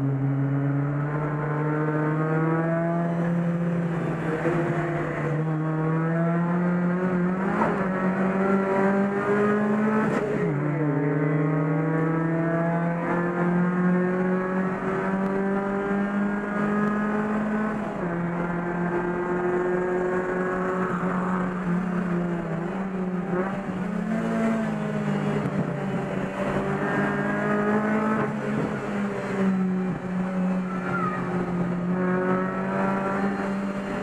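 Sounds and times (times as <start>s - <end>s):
race car engine revving: 0.0s - 34.0s.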